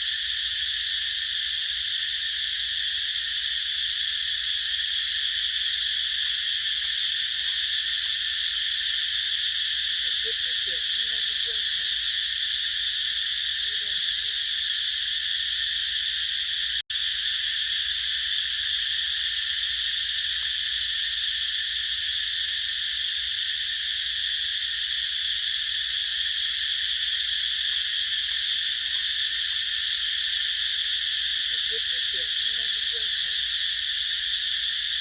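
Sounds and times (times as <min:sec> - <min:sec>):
cicadas buzzing: 0:00.0 - 0:35.0.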